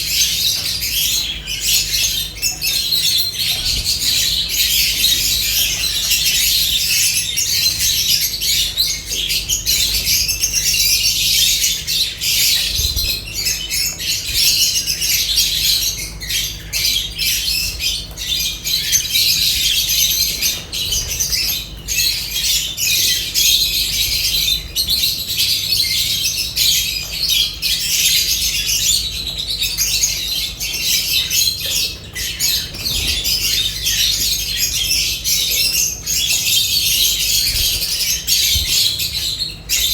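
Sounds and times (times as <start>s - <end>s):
lovebirds chattering and squawking: 0.0s - 39.9s.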